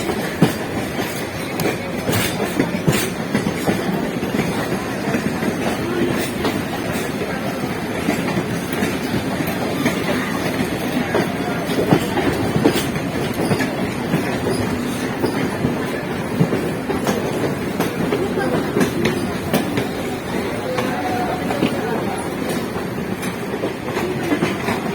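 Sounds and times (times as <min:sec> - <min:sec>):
train wheels clattering over rail joints: 0:00.0 - 0:24.9.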